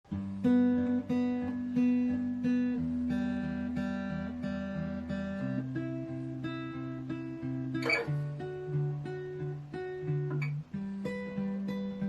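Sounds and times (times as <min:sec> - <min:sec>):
guitar chords ringing: 0:00.1 - 0:12.0.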